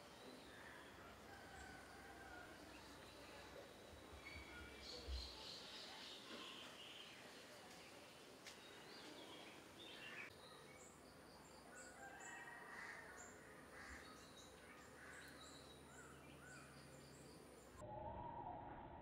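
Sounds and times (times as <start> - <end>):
birds chirping: 0.0 - 17.8.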